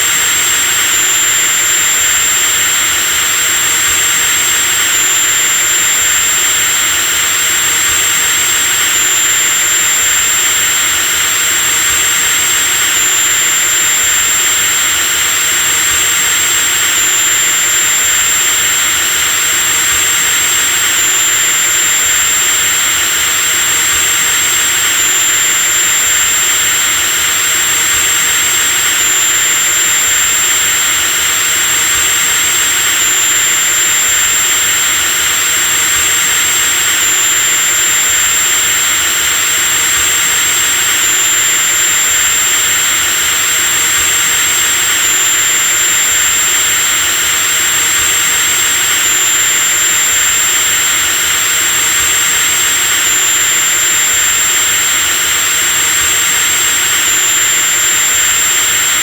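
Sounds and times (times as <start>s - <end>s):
electric drill motor whining: 0.0s - 59.0s.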